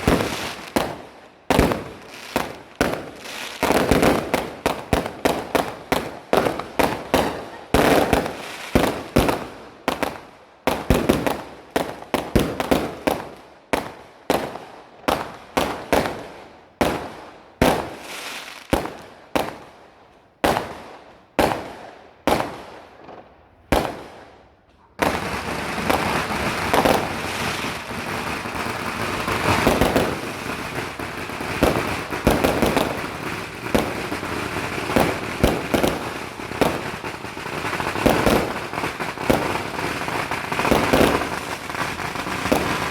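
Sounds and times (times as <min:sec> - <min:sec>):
fireworks bangs: 0:00.0 - 0:19.7, 0:20.4 - 0:42.9
firecrackers crackling: 0:00.0 - 0:42.9.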